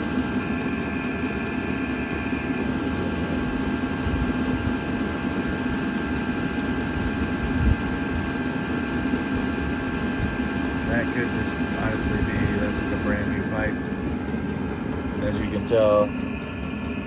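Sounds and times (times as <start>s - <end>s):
air heater fan whirring: 0.0s - 17.0s.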